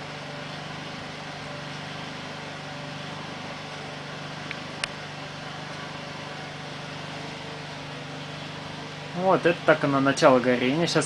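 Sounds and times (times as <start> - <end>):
firewood crackling in a stove: 0.0 - 10.3
low hum: 0.0 - 11.0.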